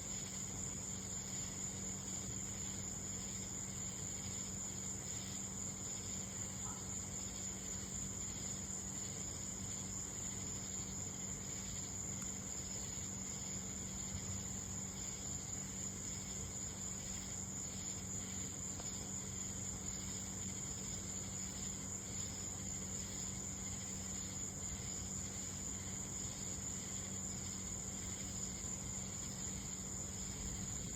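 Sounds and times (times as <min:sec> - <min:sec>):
insects trilling: 0:00.0 - 0:30.9.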